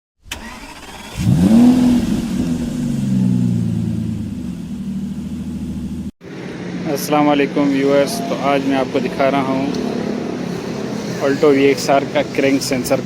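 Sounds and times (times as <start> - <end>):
car engine starting and idling: 0.2 - 13.0.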